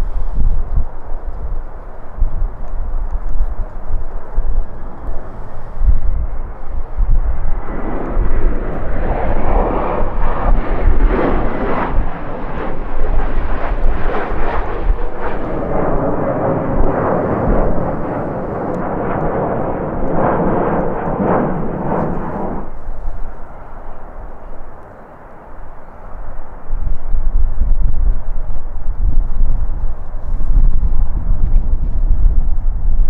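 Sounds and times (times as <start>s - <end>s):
jet airliner engines rushing: 0.0s - 33.0s
wind buffeting microphone: 0.0s - 33.0s.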